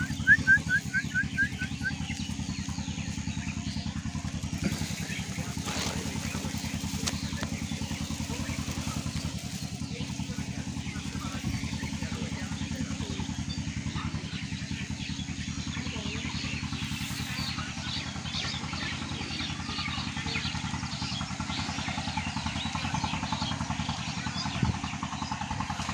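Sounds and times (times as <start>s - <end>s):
small birds chirping: 0.0s - 25.9s
small engine idling: 0.0s - 25.9s.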